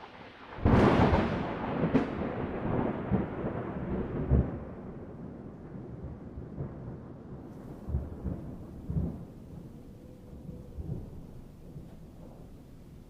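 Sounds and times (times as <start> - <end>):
rolling thunder rumble: 0.0 - 13.0
thunder crack: 0.0 - 13.0.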